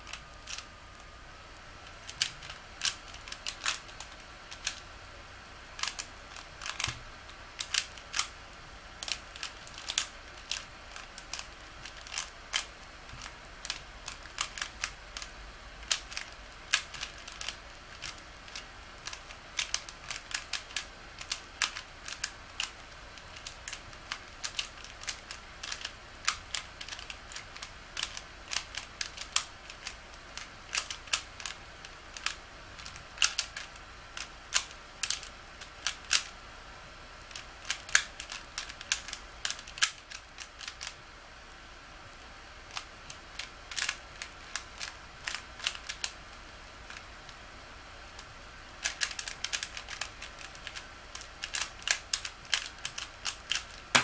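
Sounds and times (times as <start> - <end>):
puzzle cube layers clacking: 0.0 - 1.1, 1.8 - 4.9, 5.6 - 36.4, 37.3 - 41.0, 42.6 - 47.5, 48.1 - 54.0.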